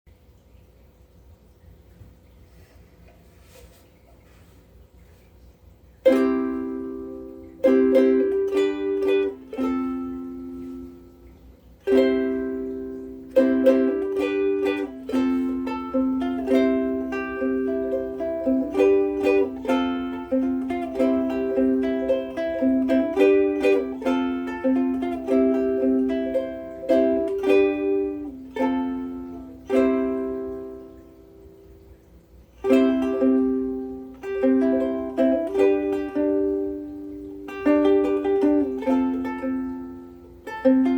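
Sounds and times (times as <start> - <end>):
ukulele strummed chords: 6.0 - 40.9.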